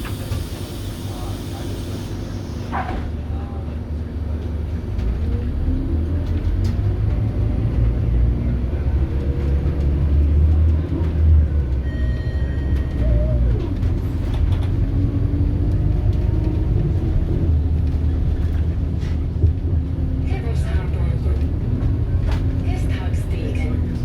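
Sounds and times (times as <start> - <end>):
bus diesel engine accelerating: 0.0 - 24.0.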